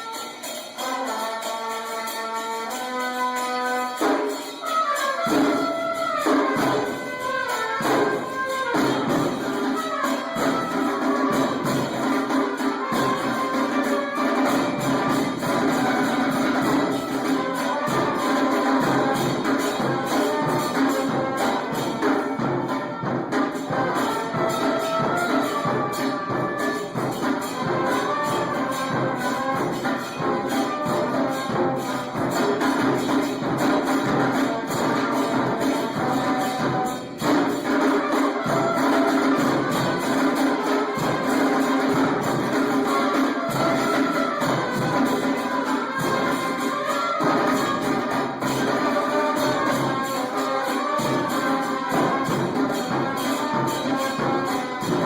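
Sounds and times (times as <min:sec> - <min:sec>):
orchestral music with brass: 0:00.0 - 0:32.4, 0:33.0 - 0:55.0
jingling tambourine: 0:00.0 - 0:55.0.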